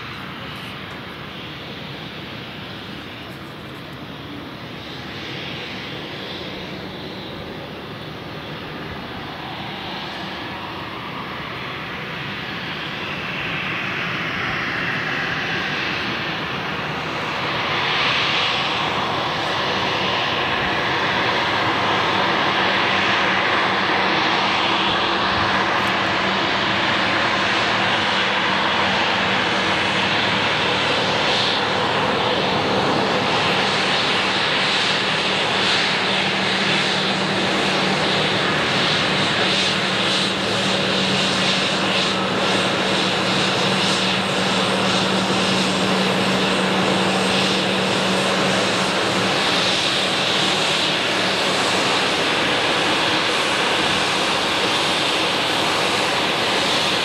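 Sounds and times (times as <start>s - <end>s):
jet airliner taxiing: 0.0s - 57.0s.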